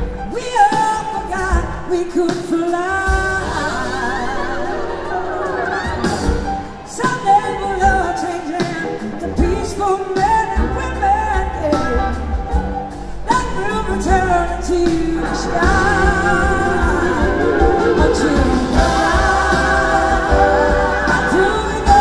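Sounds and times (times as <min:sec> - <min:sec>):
woman singing: 0:00.0 - 0:12.5, 0:13.2 - 0:22.0
bass: 0:00.0 - 0:22.0
drums: 0:00.0 - 0:22.0.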